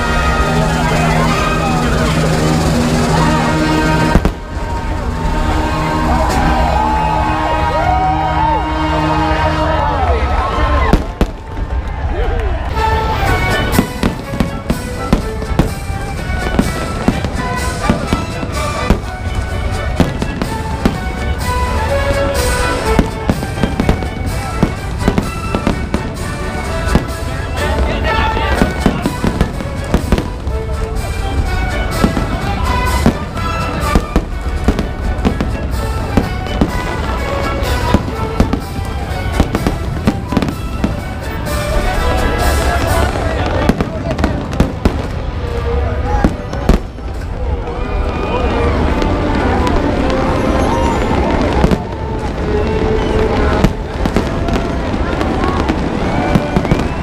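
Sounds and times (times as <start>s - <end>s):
fireworks exploding: 0.0s - 9.2s, 10.3s - 57.0s
music playing: 0.0s - 57.0s.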